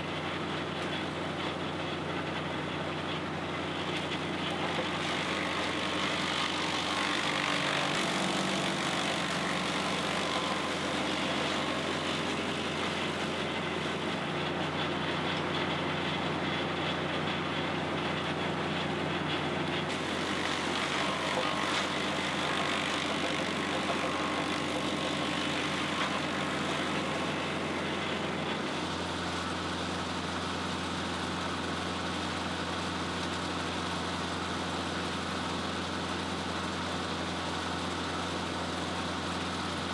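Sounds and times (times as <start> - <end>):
brush chipper diesel engine running: 0.0 - 39.9.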